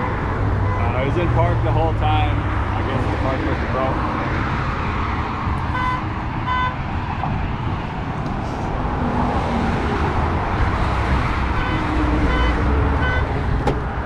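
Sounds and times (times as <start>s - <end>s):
highway traffic road noise: 0.0s - 14.0s.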